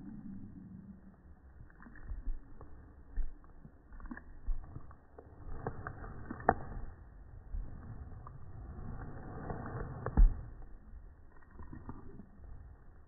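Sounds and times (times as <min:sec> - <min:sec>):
teeth clicking on bone: 0:00.2 - 0:07.0, 0:09.0 - 0:13.0
dog chewing a bone: 0:01.5 - 0:13.0.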